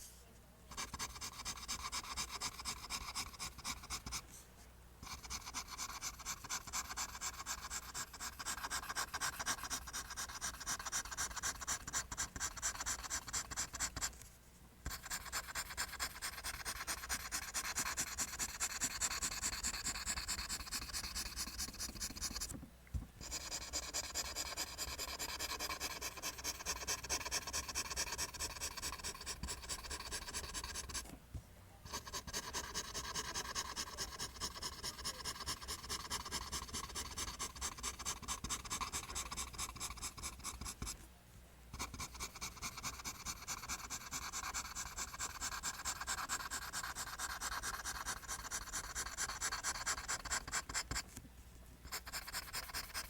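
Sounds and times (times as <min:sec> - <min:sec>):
pencil scratching on paper: 0:00.7 - 0:04.2, 0:05.0 - 0:14.2, 0:14.8 - 0:22.5, 0:23.2 - 0:31.1, 0:31.9 - 0:41.0, 0:41.8 - 0:51.1, 0:51.9 - 0:53.0.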